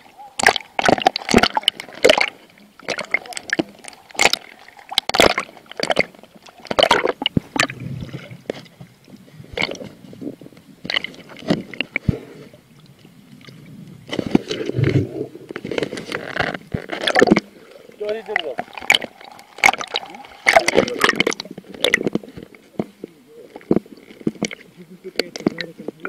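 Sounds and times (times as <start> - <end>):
water churning: 0.0 - 26.0
water gurgling: 0.0 - 26.0
water sloshing and splashing: 0.0 - 26.0.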